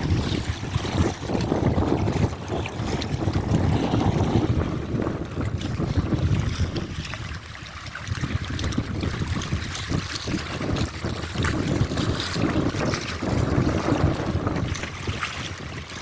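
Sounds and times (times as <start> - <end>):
water washing on beach: 0.0 - 16.0
wind buffeting microphone: 0.0 - 16.0.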